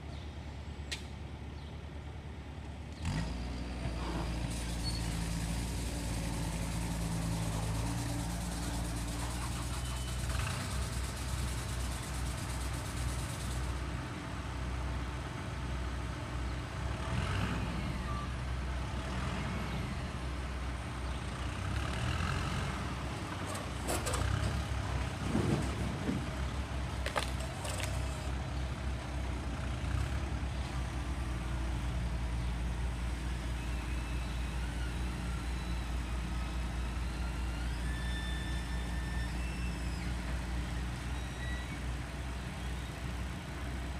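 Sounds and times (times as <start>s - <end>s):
heavy engine droning: 0.0s - 43.9s.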